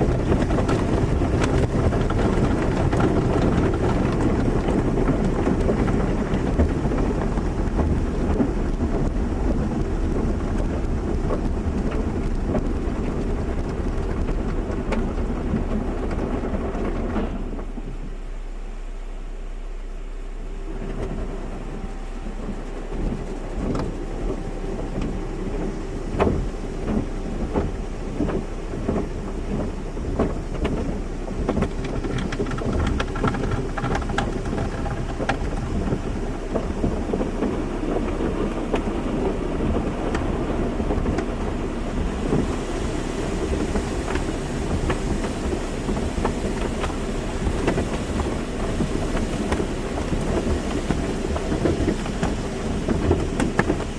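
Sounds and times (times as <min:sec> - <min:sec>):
low rumble: 0:00.0 - 0:53.9
machine hum: 0:00.0 - 0:53.9
water spraying on car body: 0:00.0 - 0:53.9.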